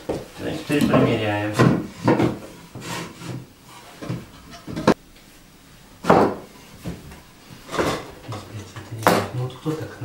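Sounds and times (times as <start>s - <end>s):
floorboards knocking and scraping: 0.0s - 5.0s, 6.0s - 9.3s.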